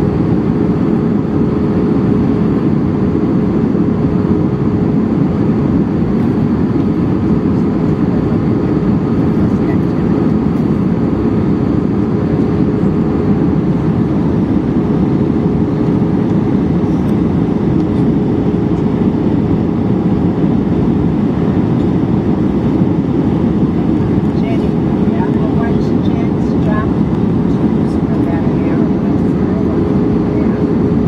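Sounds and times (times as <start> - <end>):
airliner cabin rumble: 0.0 - 31.0
steady hum tone: 0.0 - 31.0.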